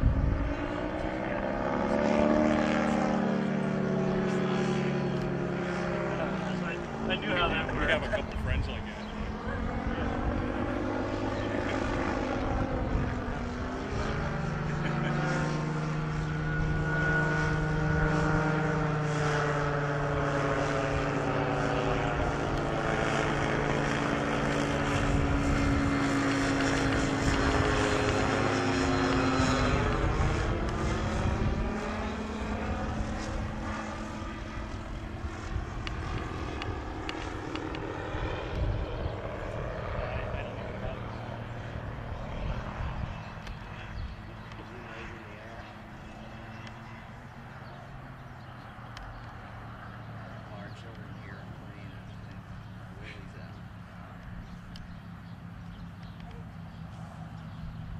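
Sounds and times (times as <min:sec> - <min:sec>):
light aircraft engine passing overhead: 0:00.0 - 0:57.9.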